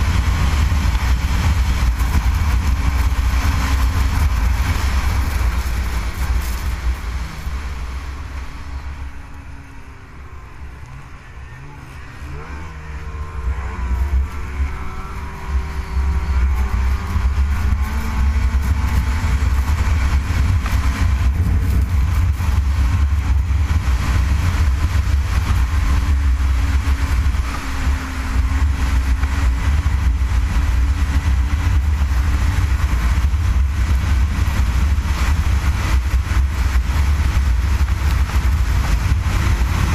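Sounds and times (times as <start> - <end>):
snowmobile engine at speed: 0.0 - 39.9.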